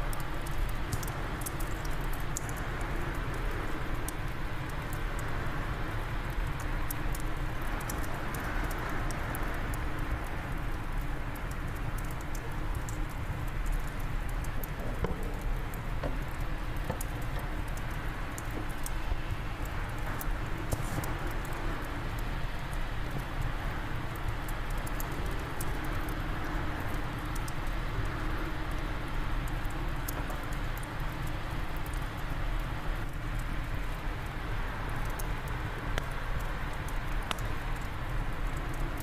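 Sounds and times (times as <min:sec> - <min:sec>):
low rumble of wind: 0:00.0 - 0:39.0
wood fire crackling: 0:00.0 - 0:39.0.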